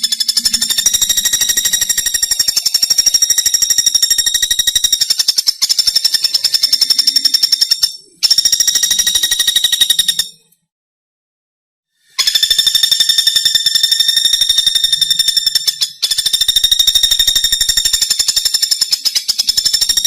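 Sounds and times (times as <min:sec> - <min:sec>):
woodpecker rattling call: 0:00.0 - 0:10.5, 0:12.2 - 0:20.0.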